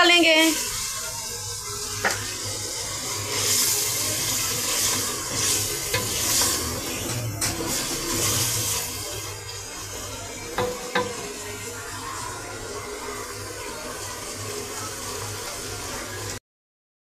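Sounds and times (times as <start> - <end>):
food sizzling and bubbling in pot: 0.0 - 16.4.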